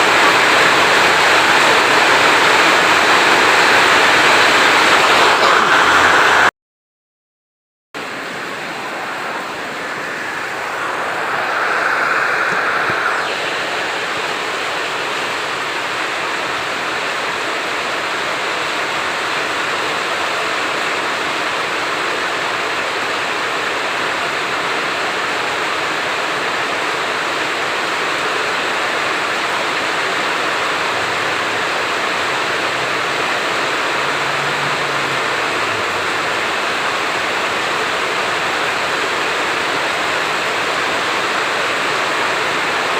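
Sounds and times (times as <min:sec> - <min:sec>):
heavy rain falling: 0:00.0 - 0:06.5, 0:08.0 - 0:42.9.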